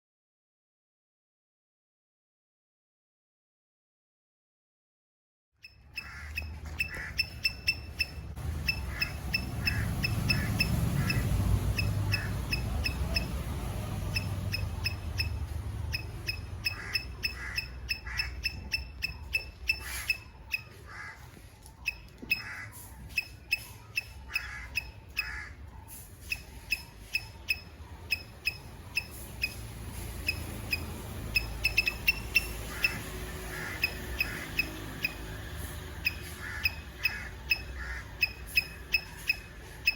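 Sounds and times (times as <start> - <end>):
squirrel chirping: 5.6 - 21.2, 21.8 - 39.9.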